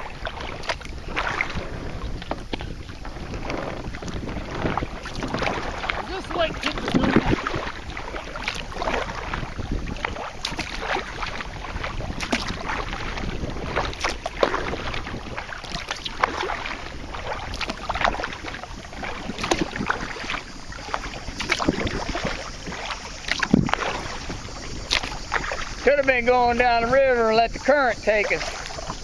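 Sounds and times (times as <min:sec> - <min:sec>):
water splashing against kayak: 0:00.0 - 0:29.0
wind rumble on microphone: 0:00.0 - 0:29.0.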